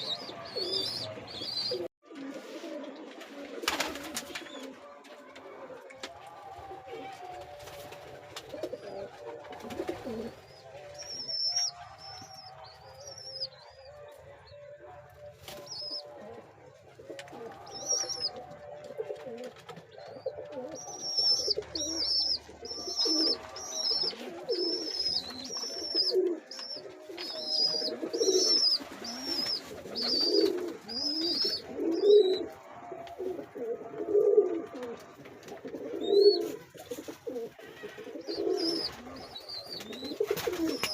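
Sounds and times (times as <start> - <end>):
pigeon cooing: 0.0 - 14.7, 15.5 - 40.9.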